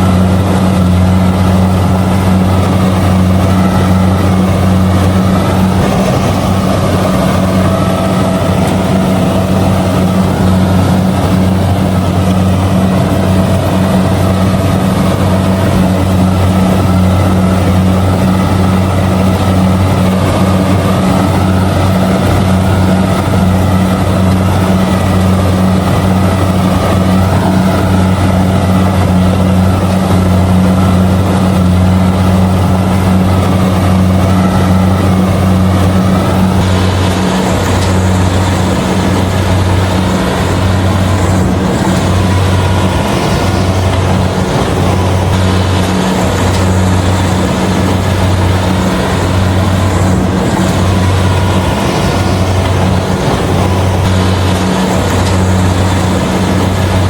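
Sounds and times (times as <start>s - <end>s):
combine harvester engine drone: 0.0s - 57.0s
machinery mechanical noise: 0.0s - 57.0s.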